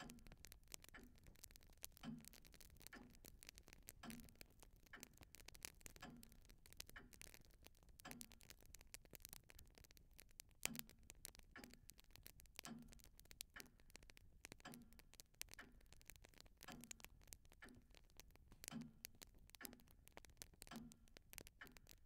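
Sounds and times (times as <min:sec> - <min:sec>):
clock ticking: 0:00.0 - 0:22.0
faint irregular clicks: 0:00.0 - 0:22.0.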